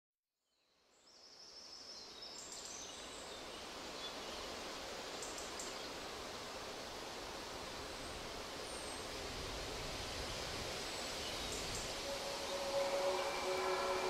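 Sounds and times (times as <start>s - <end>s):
steady outdoor hiss: 0.9s - 14.0s.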